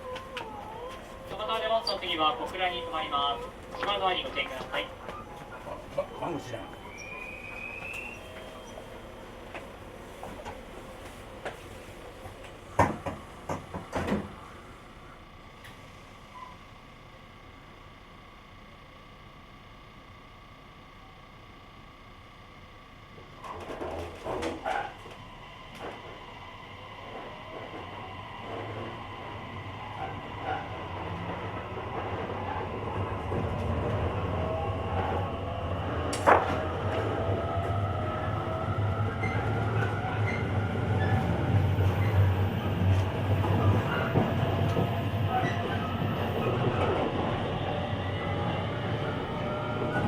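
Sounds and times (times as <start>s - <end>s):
train rolling rumble: 0.0s - 16.3s, 23.2s - 50.0s.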